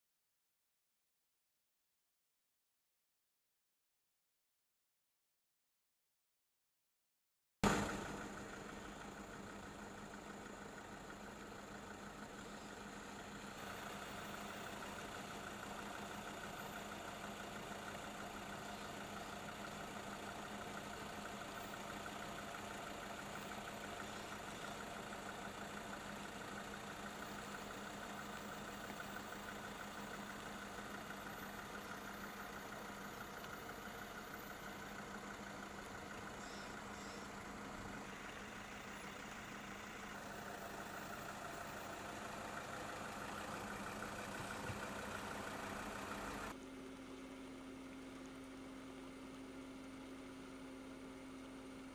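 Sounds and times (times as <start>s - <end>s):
vehicle engine idling: 7.6s - 51.9s.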